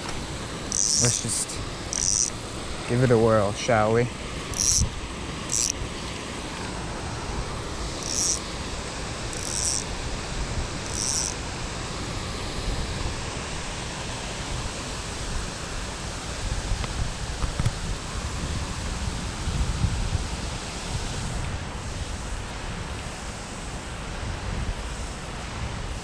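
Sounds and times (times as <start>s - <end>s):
water rushing over a dam: 0.0s - 26.0s.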